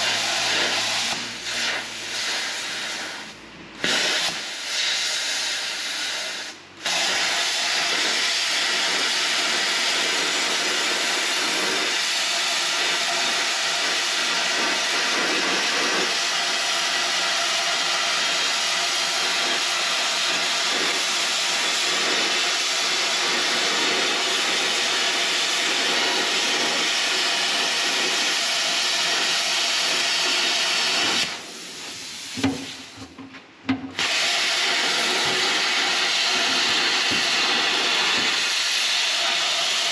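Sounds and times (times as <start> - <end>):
plasma cutter hissing: 0.0 - 33.0, 33.9 - 39.9.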